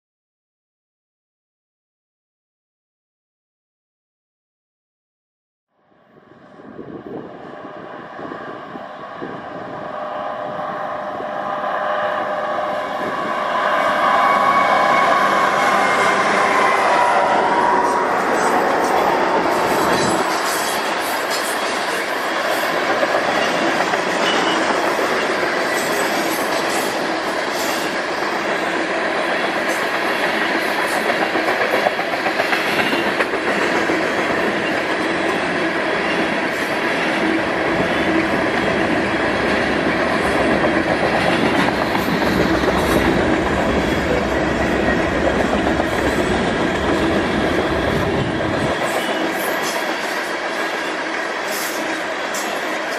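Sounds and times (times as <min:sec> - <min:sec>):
freight train wheels on rails: 0:06.2 - 0:52.9.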